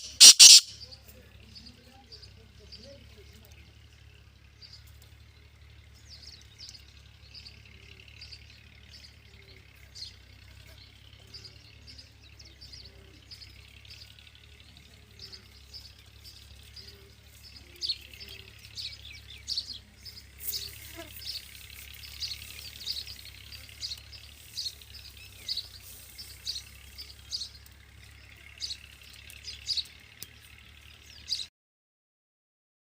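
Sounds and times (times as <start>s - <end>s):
birds chirping: 0.0s - 31.5s.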